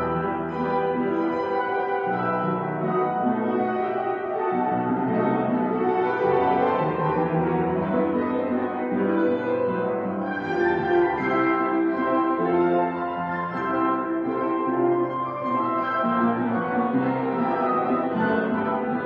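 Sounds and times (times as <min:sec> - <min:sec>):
grand piano chords in church: 0:00.0 - 0:19.0.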